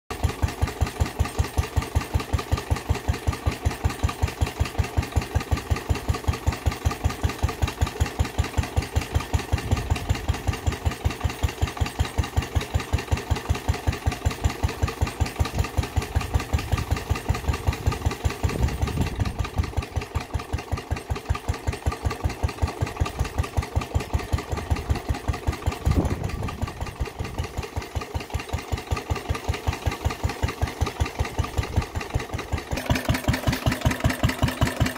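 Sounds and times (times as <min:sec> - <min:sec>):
stationary engine running: 0:00.1 - 0:34.9.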